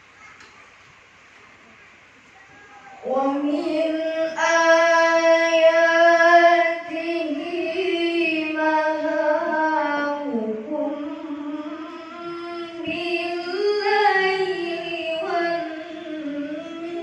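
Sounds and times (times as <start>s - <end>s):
child chanting melodically: 0.0s - 0.8s, 1.7s - 17.0s.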